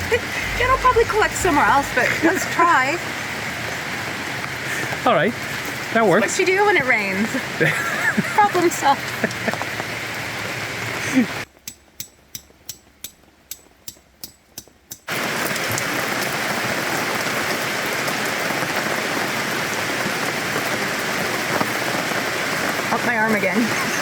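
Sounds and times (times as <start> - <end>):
heavy rain hiss: 0.0 - 11.5, 15.1 - 24.0.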